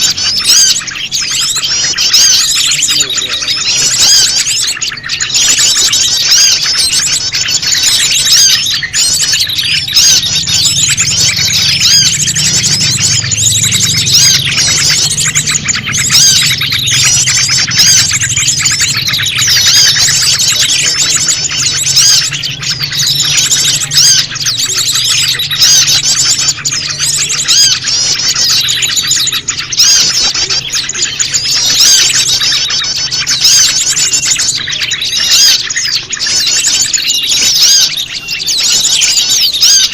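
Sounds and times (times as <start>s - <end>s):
dense bird chirps and trills: 0.0s - 39.9s.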